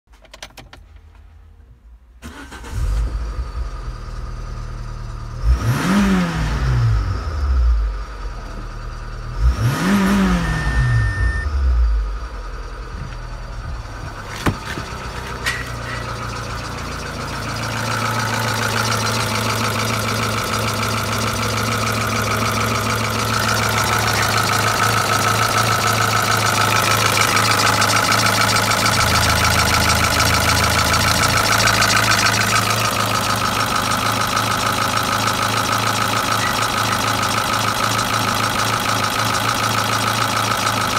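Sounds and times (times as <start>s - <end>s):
car engine starting and revving: 2.2s - 40.9s
engine whine: 2.3s - 40.4s.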